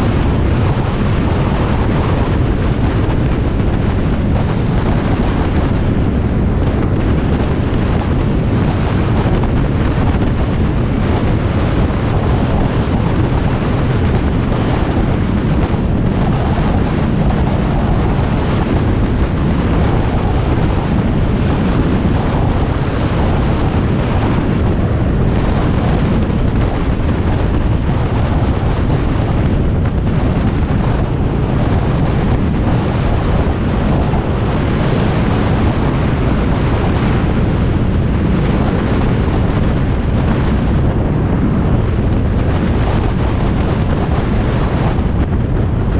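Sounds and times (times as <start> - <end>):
motorcycle engine drone: 0.0 - 45.9
road noise: 0.0 - 45.9
wind rushing over microphone: 0.0 - 45.9.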